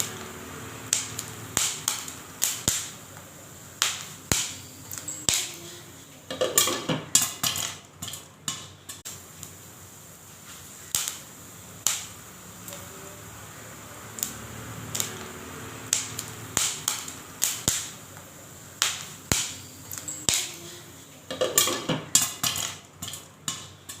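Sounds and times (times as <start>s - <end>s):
popcorn kernels popping: 0.0s - 9.7s, 10.7s - 12.9s, 14.0s - 24.0s.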